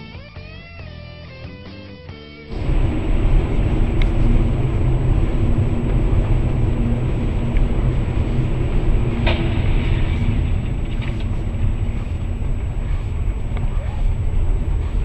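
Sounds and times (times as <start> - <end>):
engine and road rumble: 2.5 - 15.0
faint steady hum: 2.5 - 15.0.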